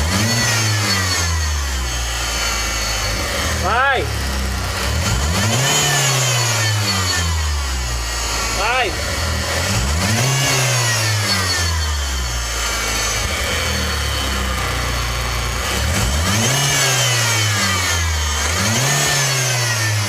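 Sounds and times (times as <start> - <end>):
high whine: 0.0 - 16.7
car engine revving: 0.0 - 20.0.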